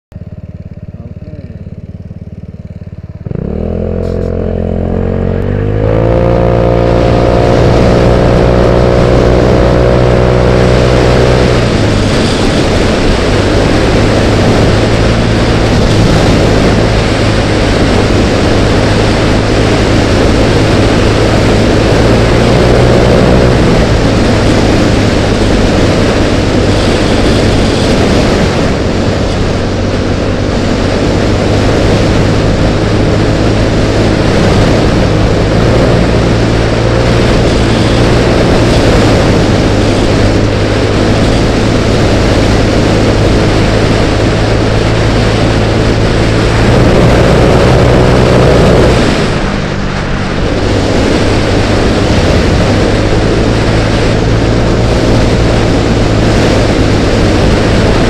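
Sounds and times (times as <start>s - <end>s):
scooter engine idling and revving: 0.0s - 58.0s
wind rushing over camera: 2.7s - 58.0s.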